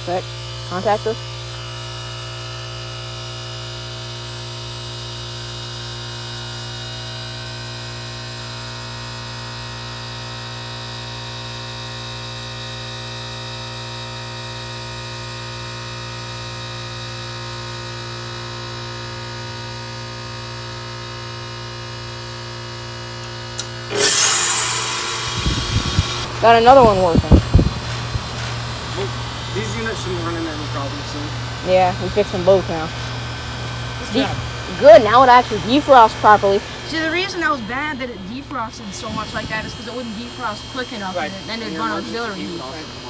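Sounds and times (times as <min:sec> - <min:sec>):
heat pump humming: 0:00.0 - 0:43.0.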